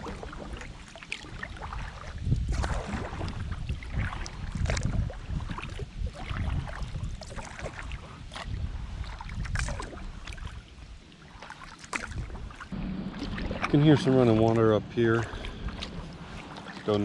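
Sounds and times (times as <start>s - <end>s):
wind rumbling on microphone: 0.0s - 11.1s, 12.0s - 17.0s
paddle splashing in water: 0.0s - 17.0s.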